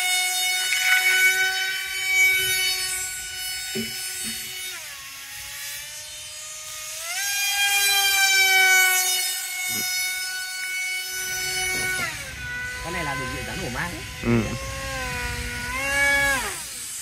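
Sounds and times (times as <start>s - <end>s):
electric motor high whine: 0.0s - 17.0s.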